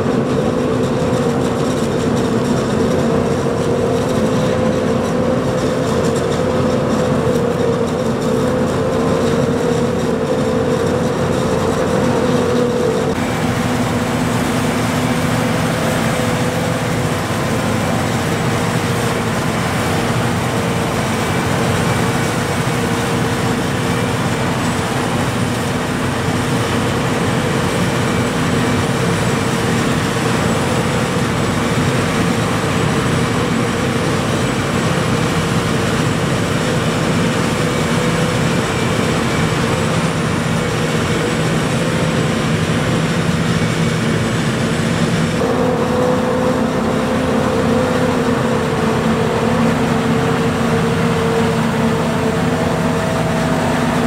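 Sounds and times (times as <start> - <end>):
forage harvester machinery drone: 0.0 - 54.0
tractors running: 0.0 - 54.0.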